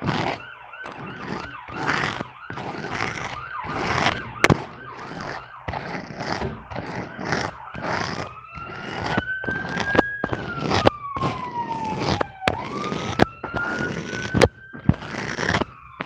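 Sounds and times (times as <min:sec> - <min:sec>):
whistle-like gliding tone: 0:00.4 - 0:16.0.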